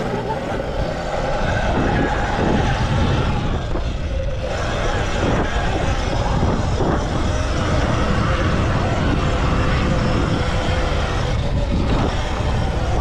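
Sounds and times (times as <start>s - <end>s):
electric motor whine: 0.0s - 13.0s
wind and track rumble: 0.0s - 13.0s.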